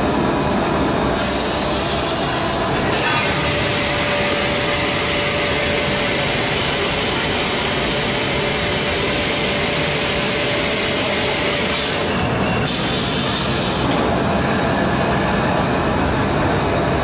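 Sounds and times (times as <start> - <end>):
blower air rush: 0.0 - 17.0.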